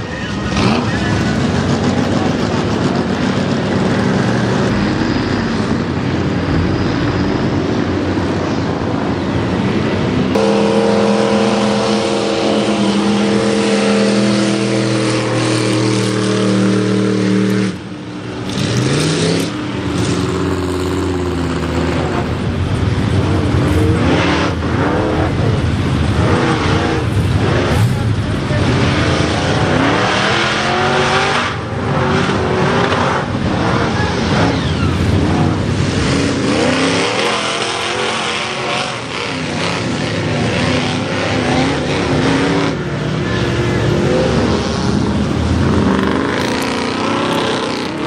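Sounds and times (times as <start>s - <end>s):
truck engines revving: 0.0s - 48.0s.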